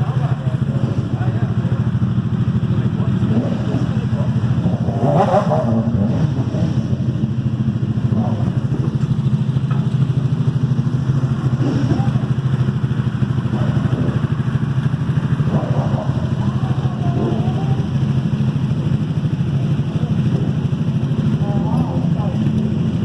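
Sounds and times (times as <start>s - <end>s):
motorcycle engines idling: 0.0s - 23.0s.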